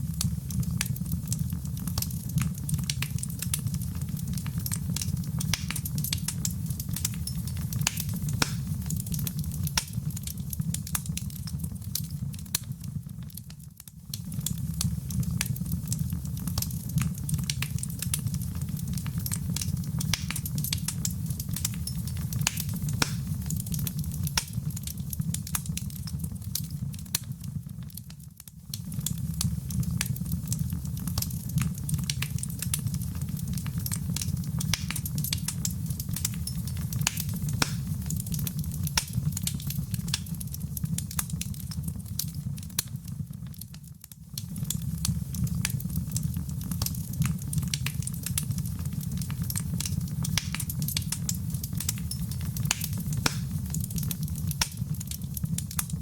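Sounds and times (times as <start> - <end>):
fire rumbling: 0.0 - 56.0
wood fire popping and crackling: 0.0 - 56.0.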